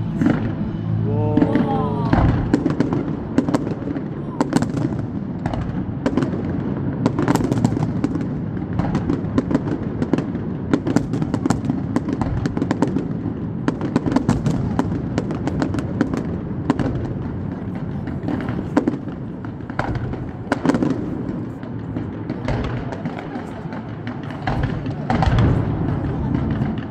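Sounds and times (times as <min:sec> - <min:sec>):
fireworks bangs and crackling: 0:02.3 - 0:26.9.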